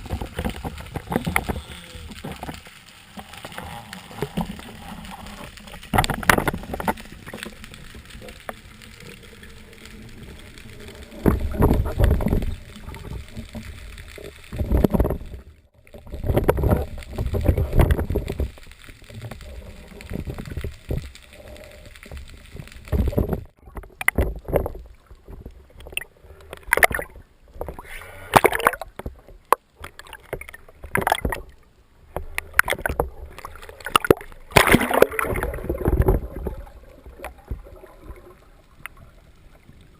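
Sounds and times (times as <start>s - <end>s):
low underwater noise: 0.0s - 39.9s.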